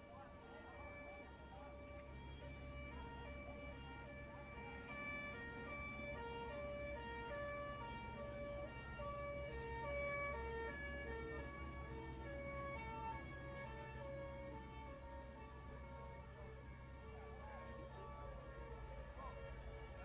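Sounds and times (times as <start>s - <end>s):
low engine rumble: 0.0s - 20.0s
two-tone siren: 0.0s - 20.0s.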